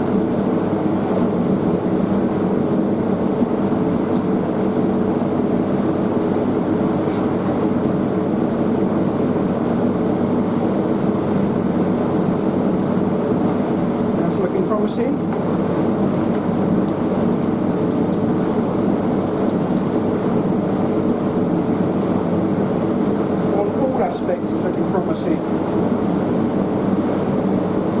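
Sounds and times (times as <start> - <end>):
machine drone with low hum: 0.0 - 28.0.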